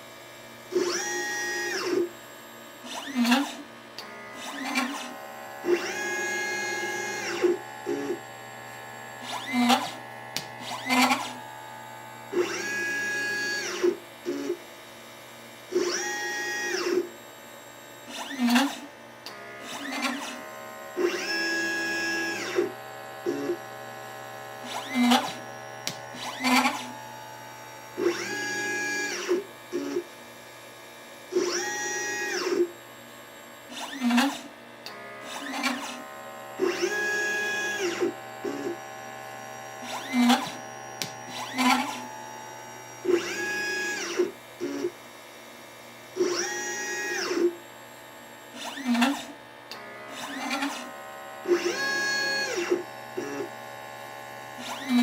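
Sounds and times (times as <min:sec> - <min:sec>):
stepper motor whine: 0:00.7 - 0:14.8, 0:15.6 - 0:30.5, 0:31.2 - 0:45.1, 0:46.0 - 0:55.0.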